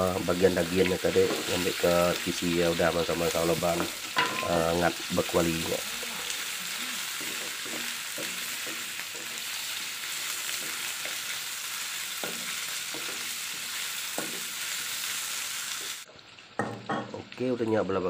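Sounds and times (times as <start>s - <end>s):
meat sizzling in hot oil: 0.0s - 18.0s
wooden spatula stirring in wok: 0.3s - 16.3s.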